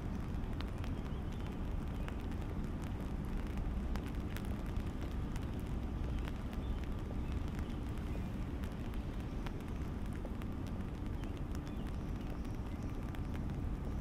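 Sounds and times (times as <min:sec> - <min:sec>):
rain drops ticking on umbrella: 0:00.0 - 0:14.0
steady hiss of rain: 0:00.0 - 0:14.0.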